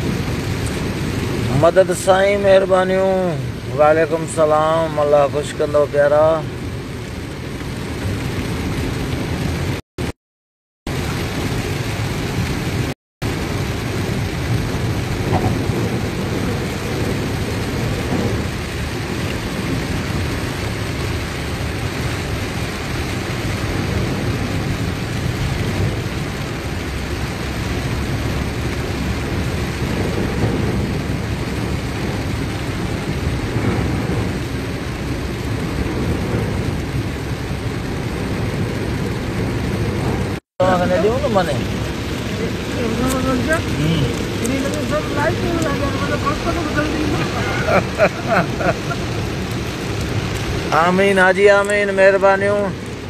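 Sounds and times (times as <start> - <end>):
heavy rain on a car: 0.0 - 10.2, 10.9 - 53.0.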